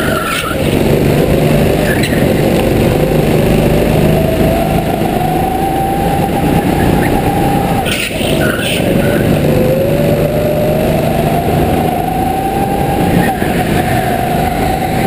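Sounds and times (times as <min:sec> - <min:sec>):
go-kart engine accelerating: 0:00.0 - 0:15.0.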